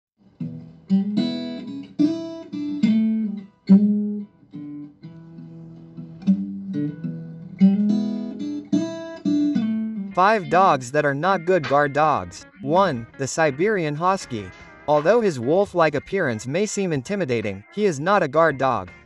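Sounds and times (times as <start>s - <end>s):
acoustic guitar strummed chords: 0.2s - 19.0s.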